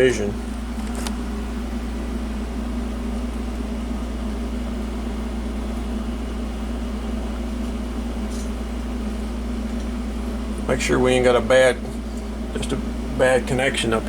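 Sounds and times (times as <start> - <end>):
fan whirring: 0.0 - 14.0
low electrical hum: 0.0 - 14.0.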